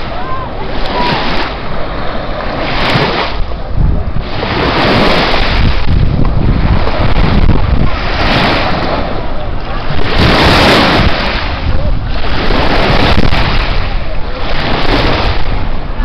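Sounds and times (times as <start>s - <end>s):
waves washing on shore: 0.0s - 16.0s
wind buffeting microphone: 0.0s - 16.0s.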